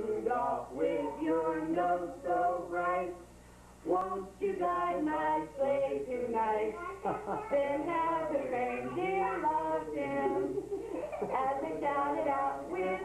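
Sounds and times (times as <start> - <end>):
man and woman singing together: 0.0 - 13.0.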